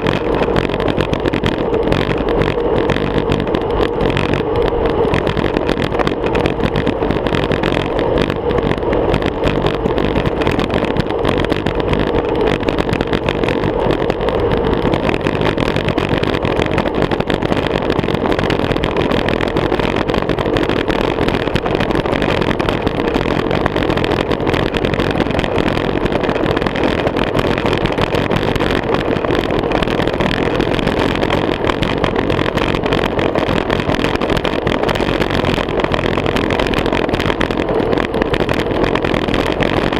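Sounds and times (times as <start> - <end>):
bicycle road noise: 0.0 - 39.9
wind buffeting: 0.0 - 39.9.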